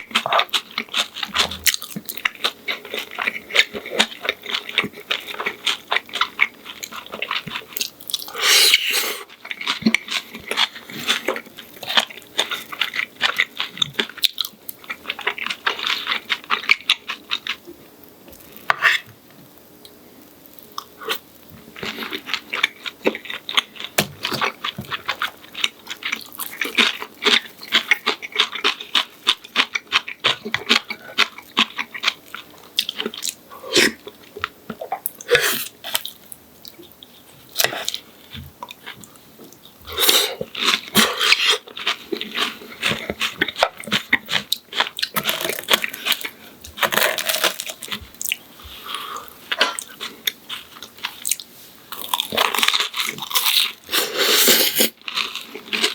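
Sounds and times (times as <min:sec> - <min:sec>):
crunchy chewing of fried food: 0:00.0 - 0:55.9.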